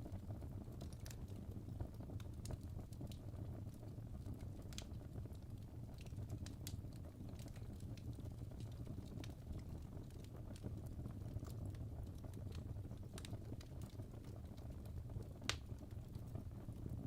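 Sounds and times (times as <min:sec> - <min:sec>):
campfire crackling and snapping: 0:00.0 - 0:17.0
low rumble of flames: 0:00.0 - 0:17.0.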